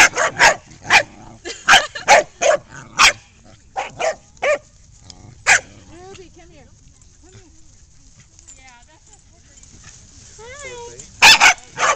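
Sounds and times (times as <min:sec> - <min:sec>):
dogs barking and yipping: 0:00.0 - 0:06.3, 0:07.0 - 0:11.9.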